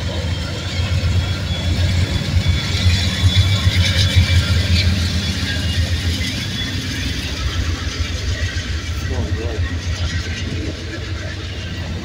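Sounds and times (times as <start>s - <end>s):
diesel locomotive engine rumble: 0.0s - 12.0s
train wheels rolling on rails: 0.0s - 12.0s.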